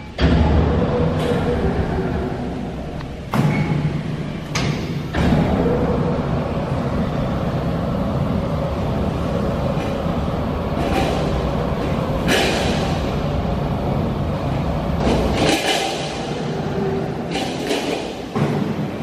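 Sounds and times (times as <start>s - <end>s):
factory machinery rumbling: 0.0s - 19.0s.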